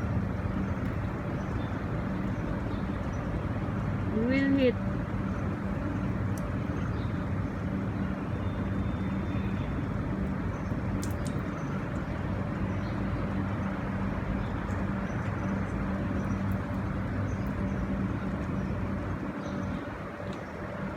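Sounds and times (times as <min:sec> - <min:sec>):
road traffic noise: 0:00.0 - 0:20.9.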